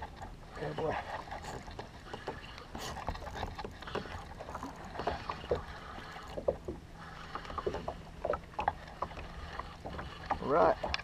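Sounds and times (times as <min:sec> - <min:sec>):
water lapping around kayak: 0:00.0 - 0:11.0.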